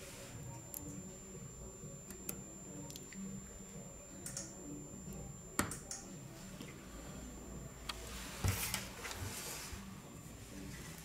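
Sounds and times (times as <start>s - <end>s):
faint steady hum: 0.0s - 11.0s
thin high whine: 0.0s - 11.0s.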